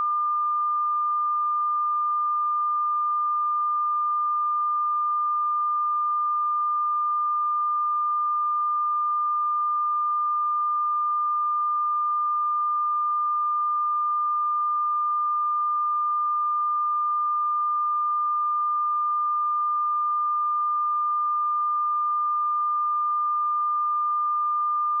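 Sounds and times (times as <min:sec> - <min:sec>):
sine-wave test tone: 0:00.0 - 0:25.0.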